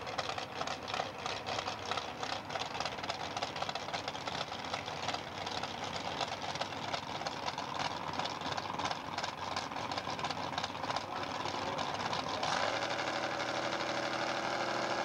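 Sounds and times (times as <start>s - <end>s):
dragster engine idling: 0.0s - 15.0s.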